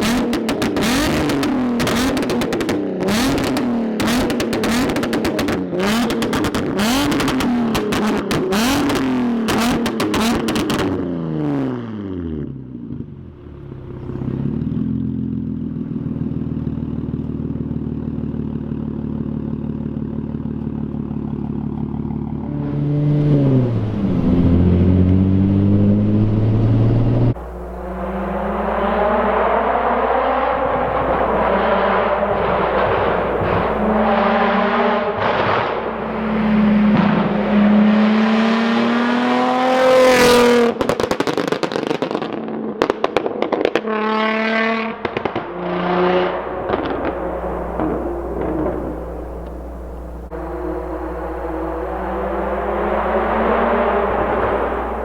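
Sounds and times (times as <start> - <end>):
car engine exhaust drone: 0.0 - 55.0.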